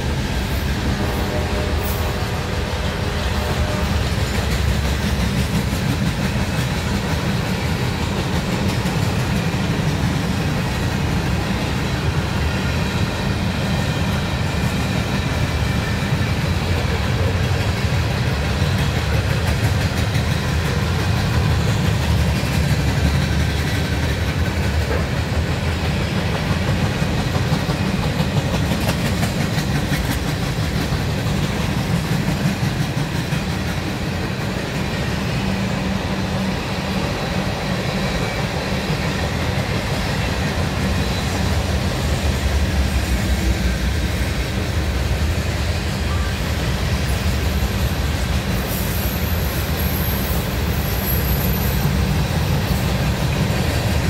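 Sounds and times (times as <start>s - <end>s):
train wheels rolling on track: 0.0s - 54.0s.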